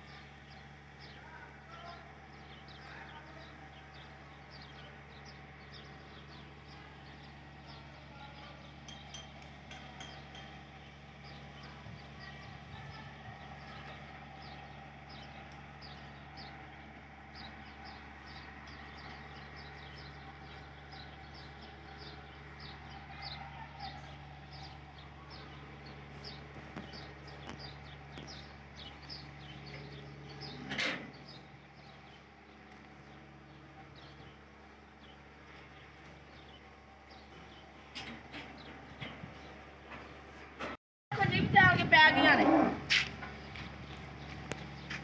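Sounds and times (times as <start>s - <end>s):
small birds chirping: 0.0s - 40.6s, 41.2s - 45.0s.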